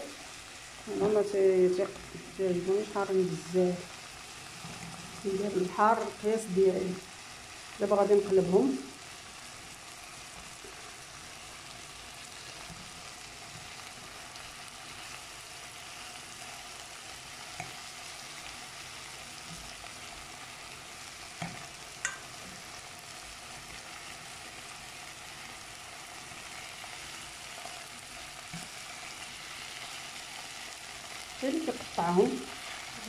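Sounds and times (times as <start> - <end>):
sausages sizzling in a pan: 0.0 - 33.0.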